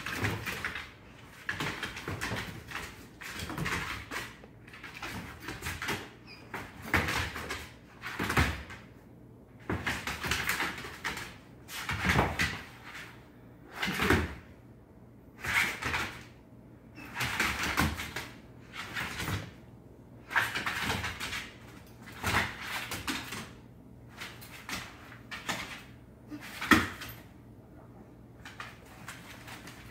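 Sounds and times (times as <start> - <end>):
dog paws scrabbling on wood floor: 0.0 - 9.0, 9.6 - 14.4, 17.0 - 27.4, 28.3 - 29.9.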